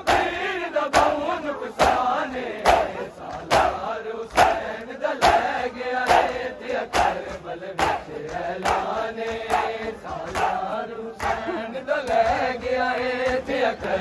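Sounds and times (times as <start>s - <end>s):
chest slaps in unison: 0.0s - 11.5s
crowd of men chanting: 0.0s - 14.0s.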